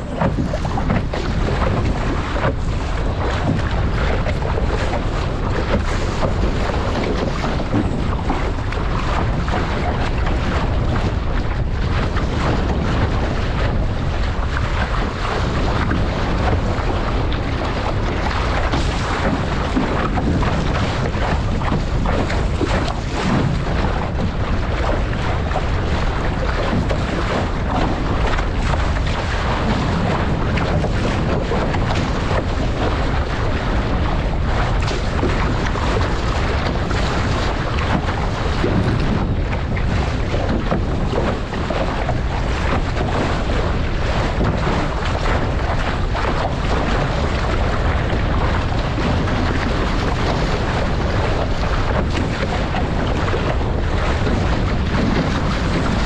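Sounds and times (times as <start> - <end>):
water rushing along a hull: 0.0 - 56.0
wind buffeting microphone: 0.0 - 56.0.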